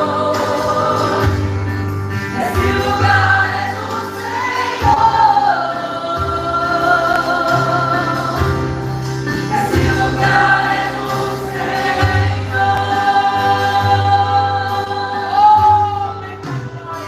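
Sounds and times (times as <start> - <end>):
gospel band and singers: 0.0 - 17.0.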